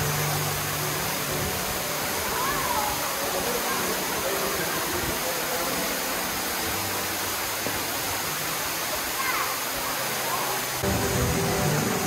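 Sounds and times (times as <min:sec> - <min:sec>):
waterfall roaring into pool: 0:00.0 - 0:12.0.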